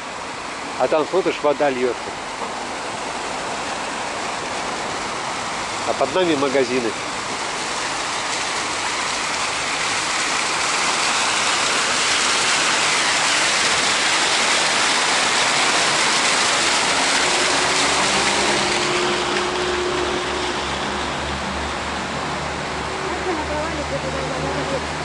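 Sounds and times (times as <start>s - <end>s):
fountain water splashing: 0.0s - 25.0s.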